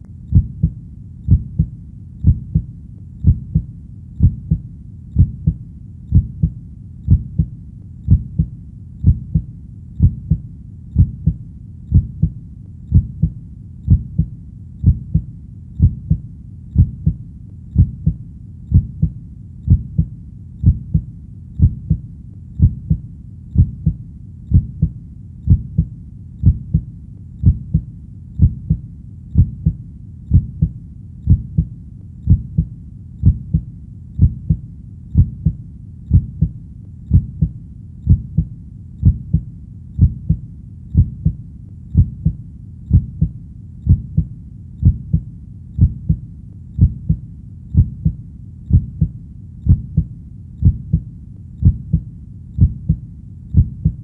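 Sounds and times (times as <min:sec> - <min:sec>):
heartbeat lub-dub: 0:00.0 - 0:54.0.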